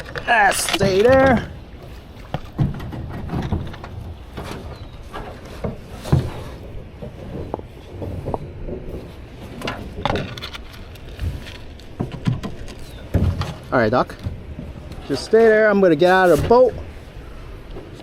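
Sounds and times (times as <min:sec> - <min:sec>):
canoe and paddle knocking: 0:00.0 - 0:18.0.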